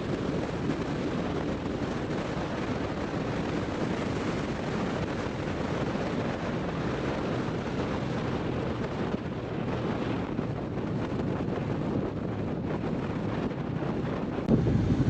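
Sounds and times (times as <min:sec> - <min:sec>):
motorcycle engine and road noise: 0:00.0 - 0:15.0
wind rush on microphone: 0:00.0 - 0:15.0.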